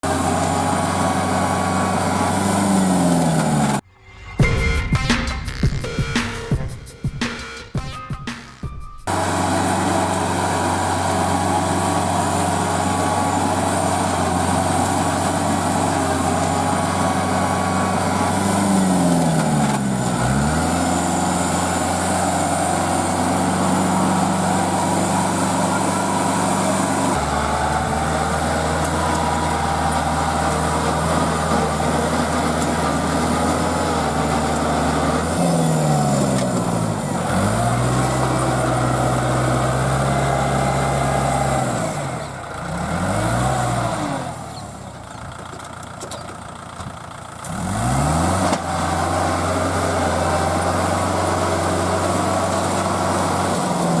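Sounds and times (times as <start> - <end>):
tractor diesel engine running: 0.0 - 7.8, 8.7 - 54.0.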